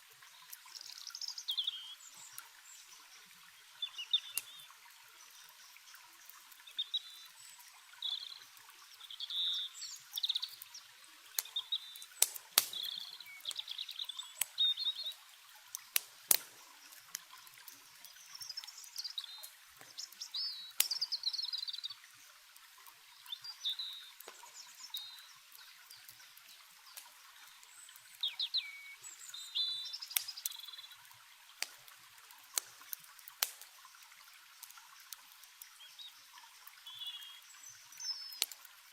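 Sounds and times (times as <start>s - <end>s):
campfire crackling: 0.0s - 38.9s
running water: 0.0s - 38.9s
small birds chirping: 0.0s - 38.9s.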